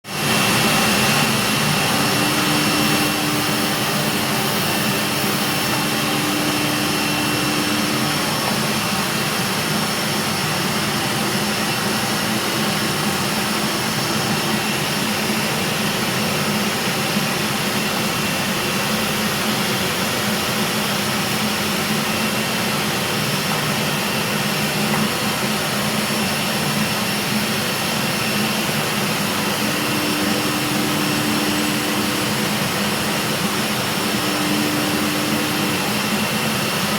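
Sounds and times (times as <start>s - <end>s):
router cutting wood: 0.1s - 36.9s
router spindle high whine: 0.1s - 36.9s.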